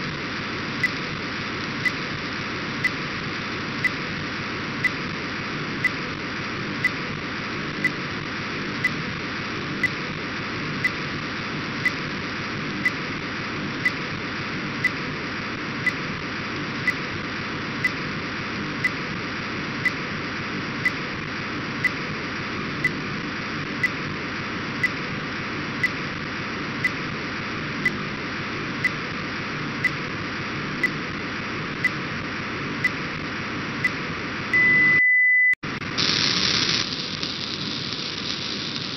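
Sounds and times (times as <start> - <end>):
steady radio hiss: 0.0 - 34.6, 35.7 - 38.9.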